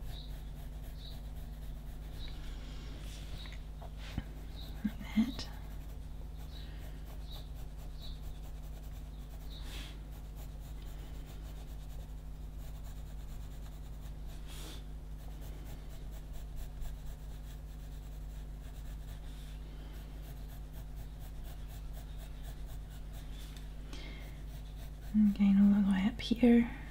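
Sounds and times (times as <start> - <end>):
pencil scratching on paper: 0.0 - 2.5, 4.0 - 23.6, 24.2 - 26.0
steady low hum: 0.0 - 26.9.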